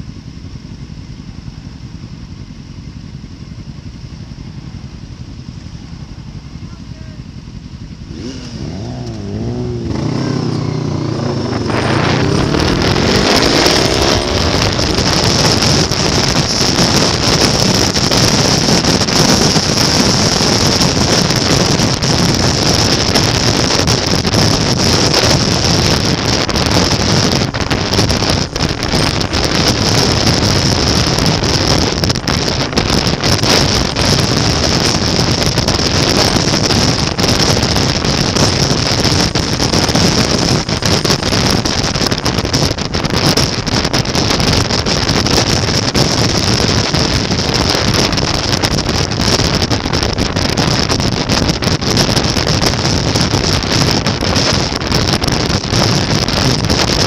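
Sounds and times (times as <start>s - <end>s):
motorcycle engine accelerating: 0.0s - 57.0s
wind noise: 3.8s - 57.0s.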